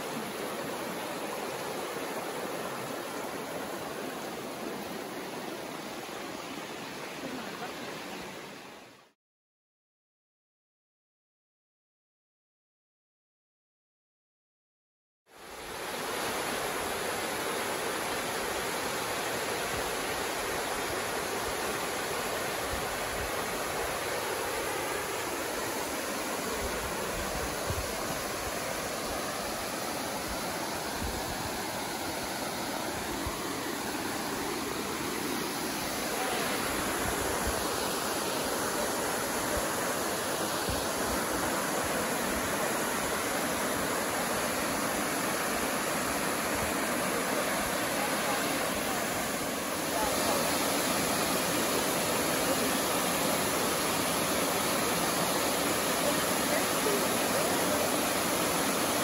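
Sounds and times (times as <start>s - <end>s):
creek and waterfall rushing: 0.0s - 9.2s, 15.3s - 59.0s.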